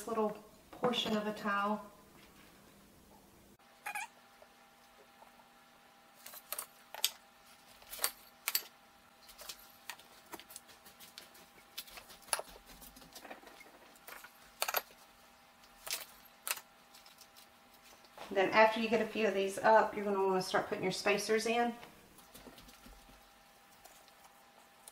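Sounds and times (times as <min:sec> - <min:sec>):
faint steady hum: 0:00.0 - 0:24.9.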